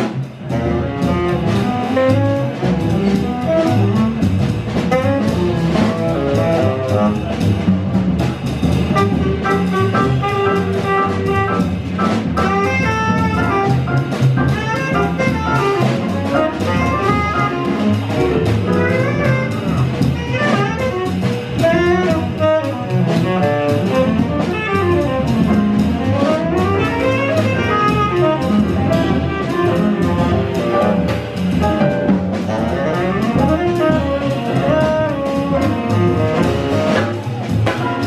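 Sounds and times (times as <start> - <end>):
drum kit with cymbals: 0.0 - 38.0
upright bass: 0.0 - 38.0
tenor saxophone: 1.0 - 7.3, 8.9 - 31.2, 32.4 - 38.0.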